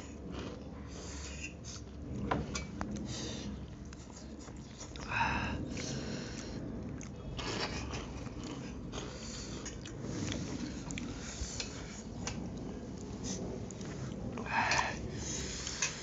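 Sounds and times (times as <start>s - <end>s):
chewing and slurping: 0.0s - 16.0s.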